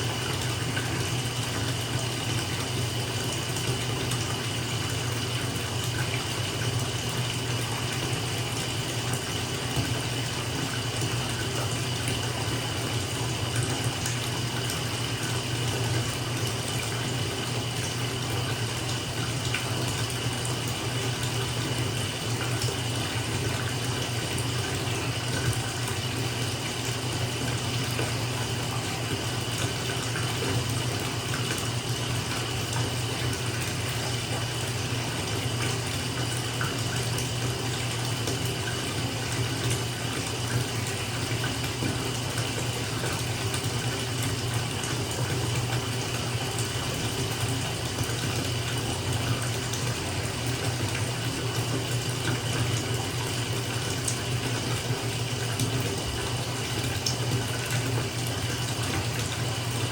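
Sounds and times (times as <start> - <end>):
water pouring into bathtub: 0.0 - 59.9.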